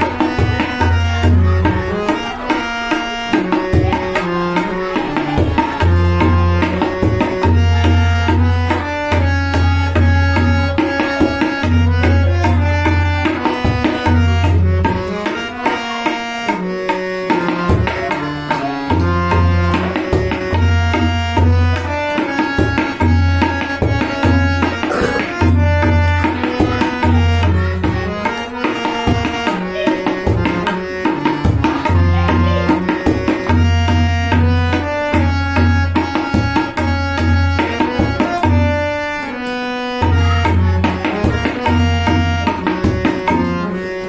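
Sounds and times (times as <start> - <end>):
tabla playing fast strokes: 0.0 - 44.0.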